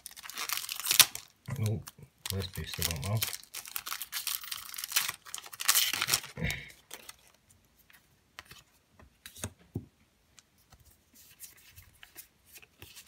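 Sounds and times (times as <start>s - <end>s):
cards and packaging rustling: 0.0s - 9.5s, 11.2s - 13.0s.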